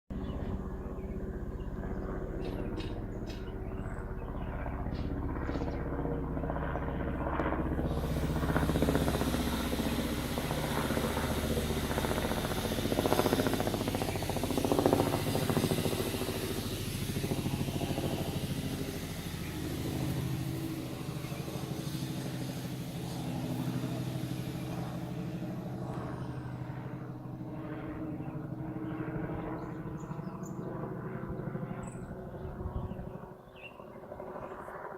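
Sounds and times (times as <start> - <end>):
helicopter flying past: 0.1 - 34.9.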